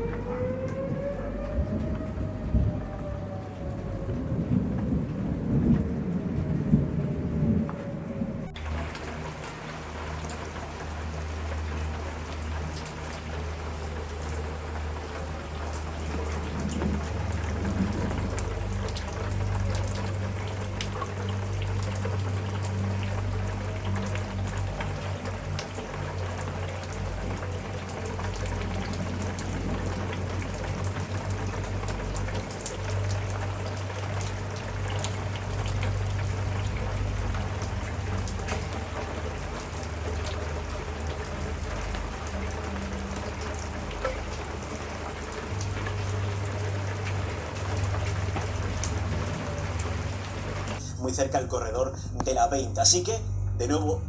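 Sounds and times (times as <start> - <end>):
raindrops ticking on a surface: 0.0 - 50.8
heavy rain: 0.0 - 51.0
constant low hum: 0.0 - 54.0.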